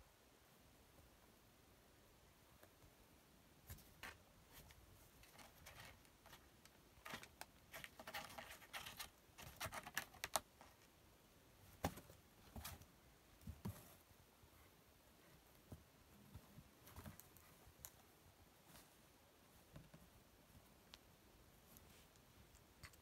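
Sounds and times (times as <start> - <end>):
light clicks and soft rustles: 2.4 - 11.0, 11.6 - 23.0.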